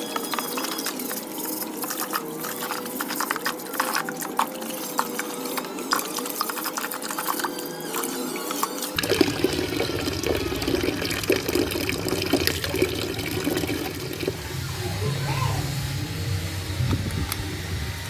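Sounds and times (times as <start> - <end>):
water pouring and splashing: 0.0 - 14.7.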